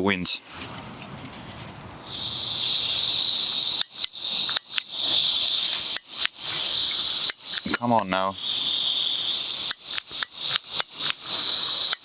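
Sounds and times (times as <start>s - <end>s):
strong wind: 0.5s - 11.9s
gas stove hissing: 2.0s - 12.0s.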